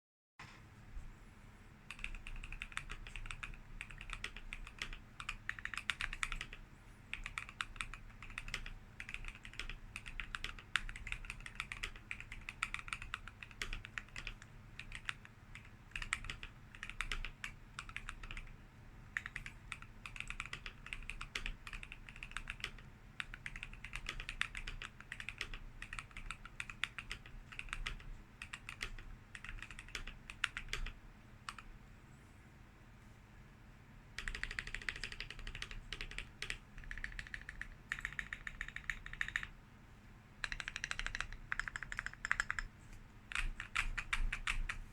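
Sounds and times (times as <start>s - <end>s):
mechanical keyboard typing: 1.9s - 31.7s, 34.2s - 39.6s, 40.4s - 42.7s, 43.3s - 44.8s.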